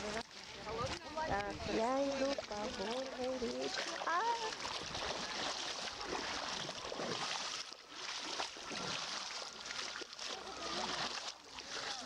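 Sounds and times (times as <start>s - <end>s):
person wading through water: 0.0s - 12.0s
stream water rushing: 0.0s - 12.0s.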